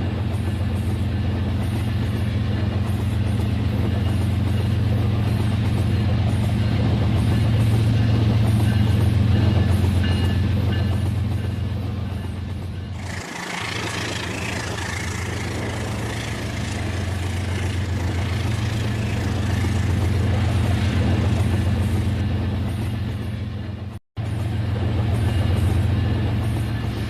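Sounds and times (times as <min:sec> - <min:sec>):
model train humming on track: 0:00.0 - 0:27.0.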